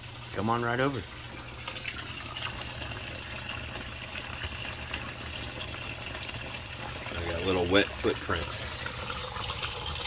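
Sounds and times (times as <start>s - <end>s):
water trickling: 0.0s - 10.0s.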